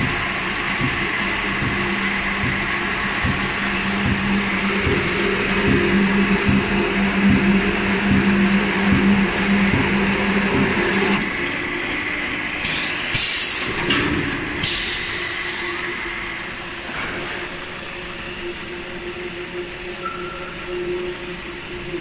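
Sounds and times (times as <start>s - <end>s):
factory machinery running: 0.0s - 22.0s
lathe humming with knocks: 0.0s - 22.0s.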